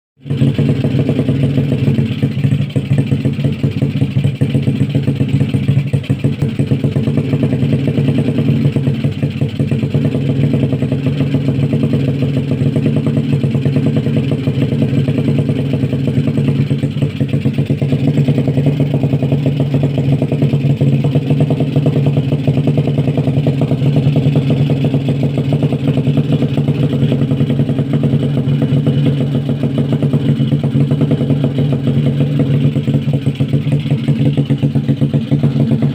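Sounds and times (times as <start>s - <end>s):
scooter engine running: 0.2s - 35.9s.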